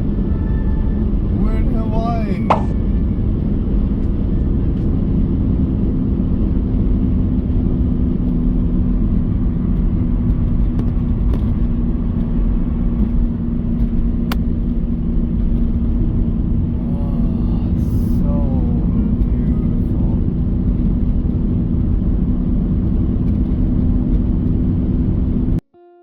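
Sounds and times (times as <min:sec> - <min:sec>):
vehicle engine and road rumble: 0:00.0 - 0:25.6.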